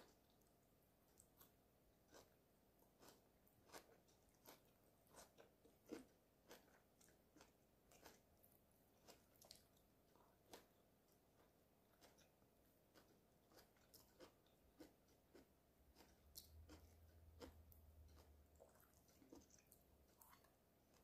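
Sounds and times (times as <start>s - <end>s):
close-up chewing: 0.0s - 21.0s
faint low hum: 0.0s - 21.0s.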